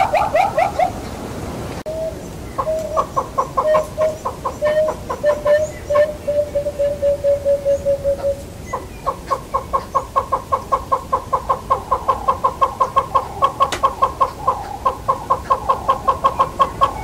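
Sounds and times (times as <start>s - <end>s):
hornbill calling: 0.0s - 1.2s, 1.9s - 17.0s.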